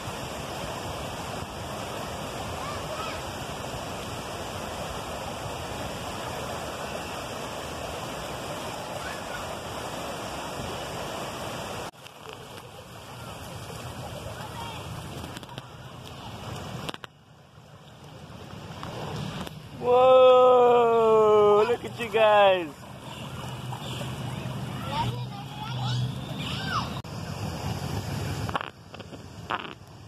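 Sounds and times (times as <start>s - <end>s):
river water rushing over rocks: 0.0s - 30.0s.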